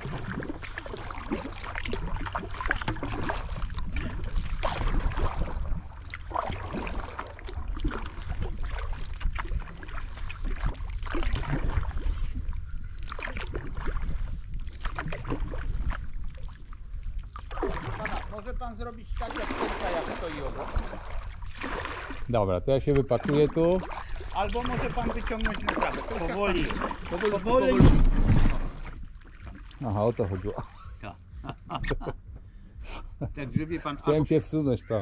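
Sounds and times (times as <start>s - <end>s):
water splashing around kayak: 0.0s - 31.4s
steady low rumble: 0.0s - 34.9s.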